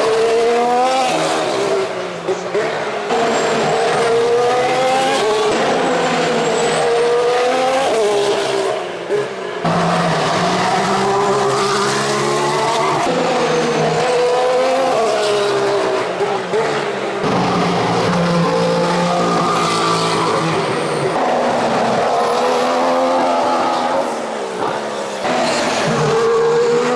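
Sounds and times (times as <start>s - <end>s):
racing car engine revving: 0.0s - 26.9s.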